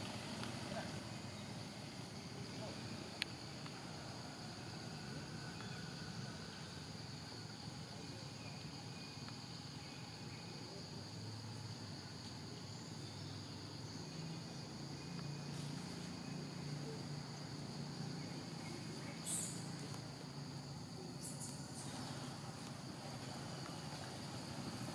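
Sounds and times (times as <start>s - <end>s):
insects buzzing: 0.0s - 24.9s.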